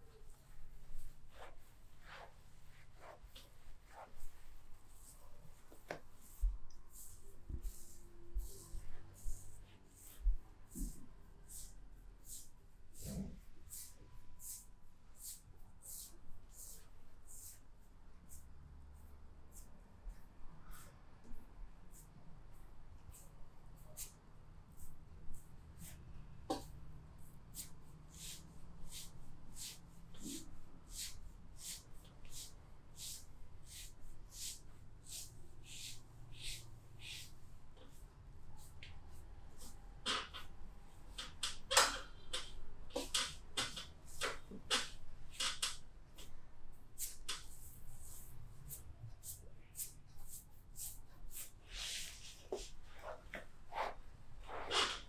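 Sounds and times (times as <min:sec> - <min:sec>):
hands rubbing massage strokes: 0:00.0 - 0:20.2, 0:21.9 - 0:55.0.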